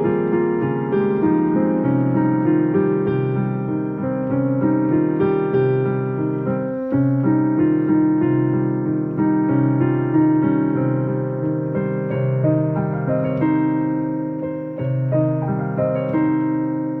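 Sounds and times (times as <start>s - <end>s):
solo piano playing slow melody: 0.0s - 17.0s.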